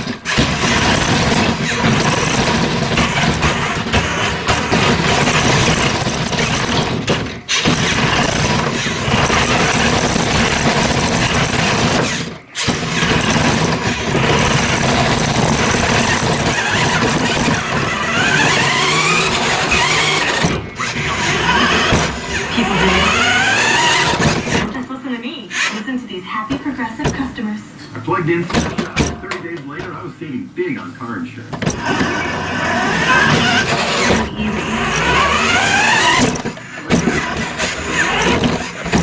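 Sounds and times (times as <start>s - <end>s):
toy truck motor whining: 0.0s - 24.8s, 25.5s - 26.0s, 31.6s - 39.0s.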